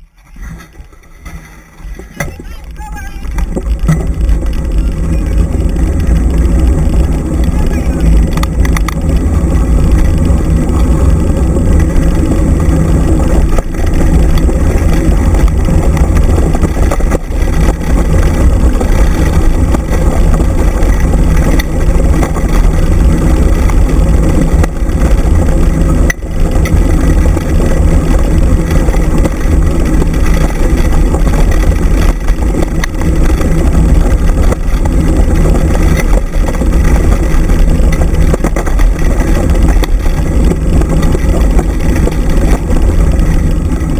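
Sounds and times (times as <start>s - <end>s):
wheels rolling over gravel: 0.0s - 43.9s
wind buffeting microphone: 0.2s - 43.9s.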